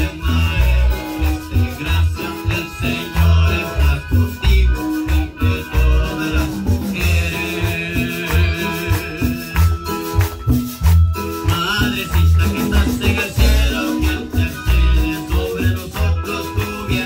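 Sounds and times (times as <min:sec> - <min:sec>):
live worship music: 0:00.0 - 0:17.0
rattling percussion: 0:00.0 - 0:17.0.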